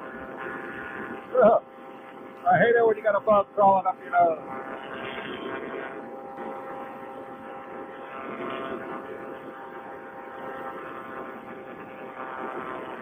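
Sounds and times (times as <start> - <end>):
muffled two-stroke engine and propeller: 0.0 - 13.0.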